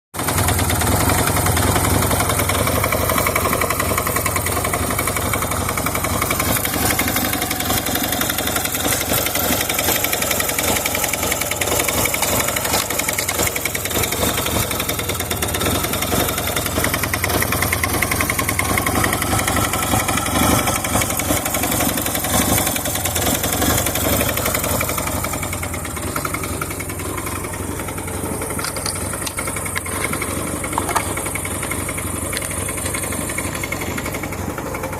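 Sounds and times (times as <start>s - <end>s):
motorcycle engine idling: 0.2s - 34.9s
strange engine noise: 0.2s - 34.9s.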